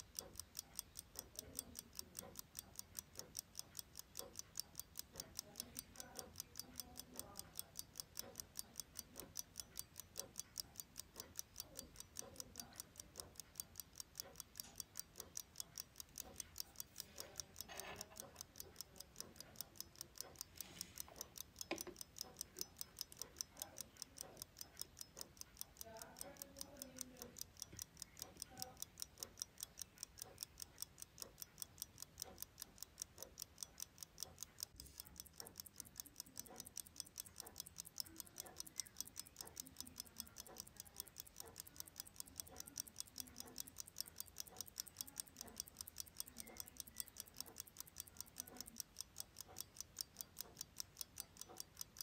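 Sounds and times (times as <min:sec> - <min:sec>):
pocket watch ticking: 0:00.0 - 0:52.0.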